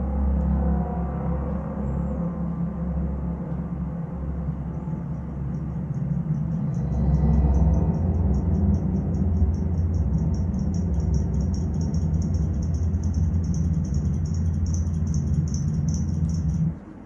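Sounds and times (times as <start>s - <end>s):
deep steady rumble: 0.0s - 17.0s
rapid high-pitched ticking: 3.0s - 16.9s.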